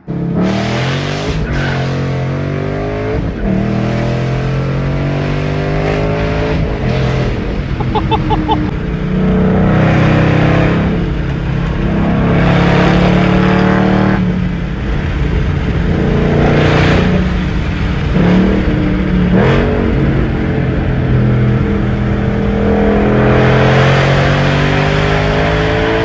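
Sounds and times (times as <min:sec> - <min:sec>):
loud car exhaust under throttle: 0:00.0 - 0:26.0.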